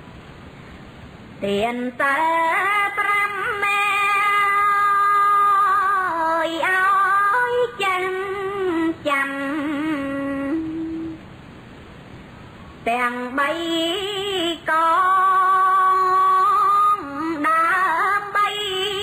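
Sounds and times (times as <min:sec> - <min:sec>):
woman chanting: 0:01.4 - 0:11.2, 0:12.8 - 0:19.0.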